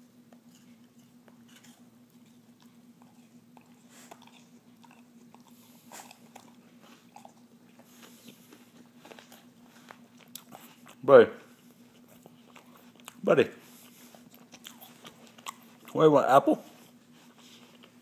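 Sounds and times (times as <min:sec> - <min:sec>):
faint steady hum: 0:00.0 - 0:18.0
dog chewing food: 0:00.3 - 0:16.0.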